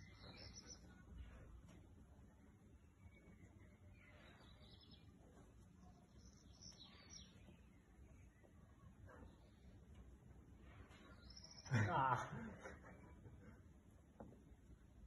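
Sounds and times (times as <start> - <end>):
faint bird chirps: 0.0 - 12.1.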